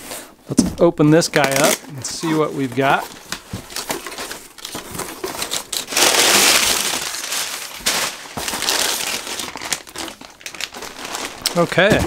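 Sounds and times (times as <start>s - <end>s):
packing paper rustling and crackling: 1.0s - 12.0s
plastic bag crinkling: 1.2s - 12.0s.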